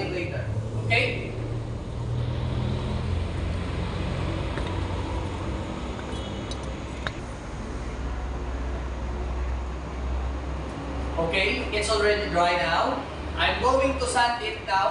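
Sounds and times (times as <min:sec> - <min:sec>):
low machine hum: 0:00.0 - 0:14.6.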